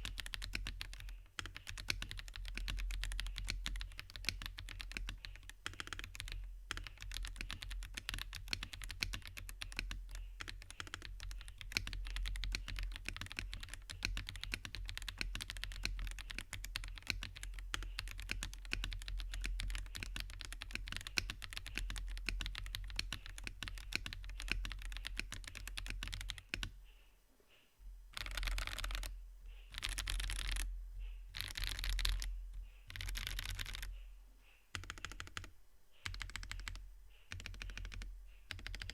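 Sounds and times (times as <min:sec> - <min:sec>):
mechanical keyboard typing: 0:00.0 - 0:26.7, 0:28.2 - 0:29.1, 0:29.7 - 0:30.7, 0:31.3 - 0:32.3, 0:32.9 - 0:33.9, 0:34.7 - 0:38.9.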